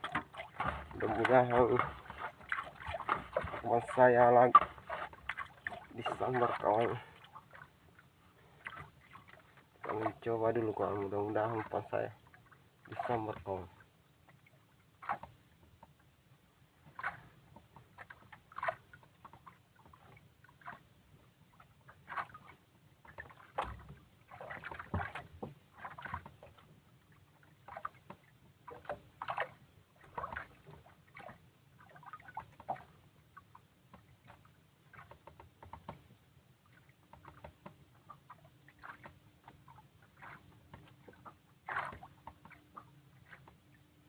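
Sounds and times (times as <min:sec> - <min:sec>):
water lapping against boat hull: 0:00.0 - 0:44.0.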